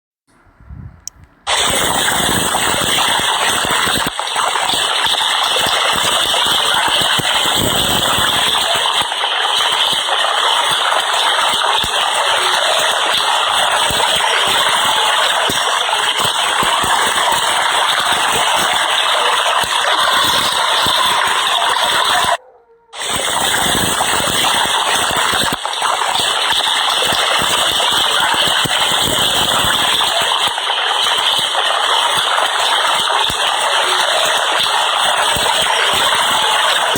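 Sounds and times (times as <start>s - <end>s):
heavy rain pouring: 1.5s - 22.4s, 23.0s - 36.9s.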